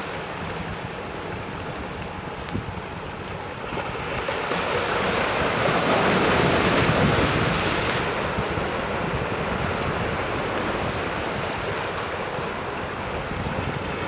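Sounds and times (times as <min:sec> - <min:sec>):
harbour water washing: 0:00.0 - 0:14.0
wind on microphone: 0:00.0 - 0:14.0.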